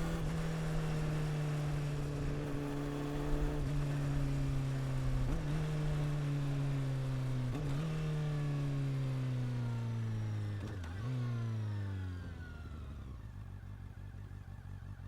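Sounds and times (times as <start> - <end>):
motorcycle engine decelerating: 0.0 - 15.0.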